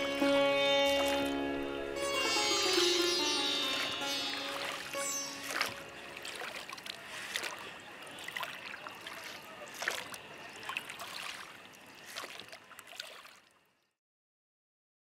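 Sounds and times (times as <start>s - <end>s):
water lapping around boats: 0.0s - 14.0s.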